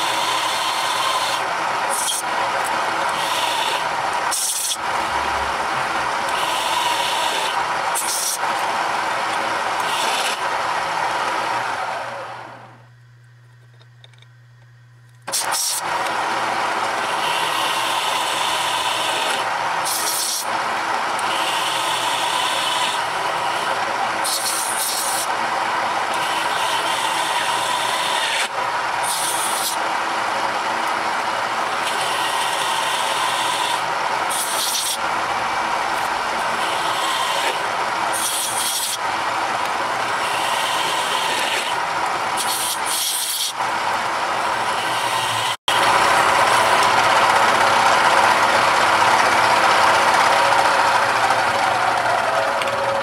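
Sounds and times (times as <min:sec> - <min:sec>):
drill press grinding through steel: 0:00.0 - 0:12.8, 0:15.3 - 0:53.0.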